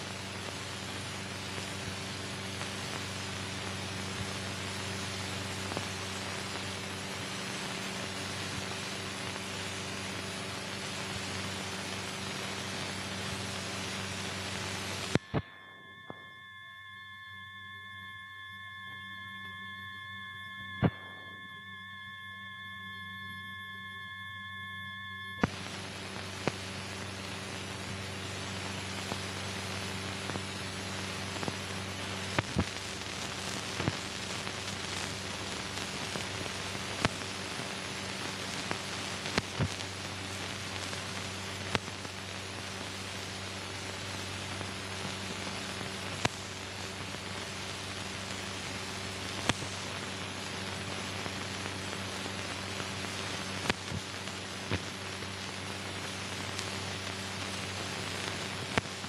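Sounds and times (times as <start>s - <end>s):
film soundtrack hiss and hum: 0.0s - 21.7s, 23.0s - 59.0s.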